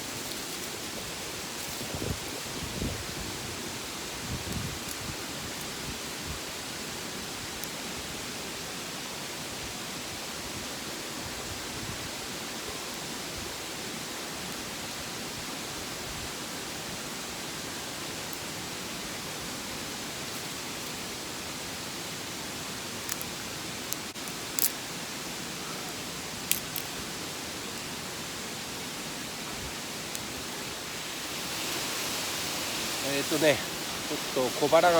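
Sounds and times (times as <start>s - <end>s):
steady rushing hiss: 0.0s - 34.9s.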